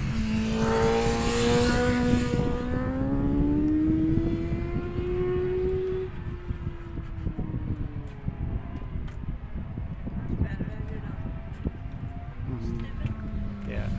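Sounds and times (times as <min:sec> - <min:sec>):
race motorcycle accelerating: 0:00.0 - 0:13.9
wind buffeting microphone: 0:00.0 - 0:13.9.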